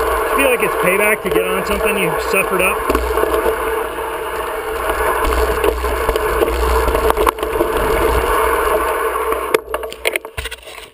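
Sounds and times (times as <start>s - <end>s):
bike tyre and trail noise: 0.0s - 10.9s.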